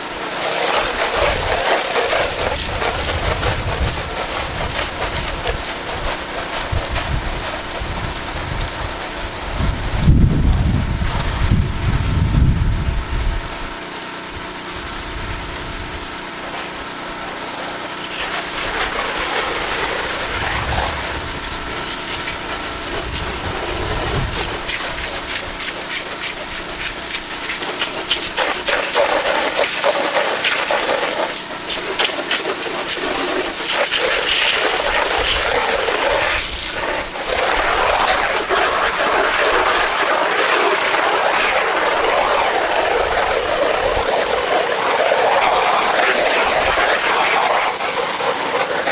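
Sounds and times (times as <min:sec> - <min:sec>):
high-pressure water spray hissing: 0:00.0 - 0:48.9
pressure washer engine running: 0:00.0 - 0:48.9.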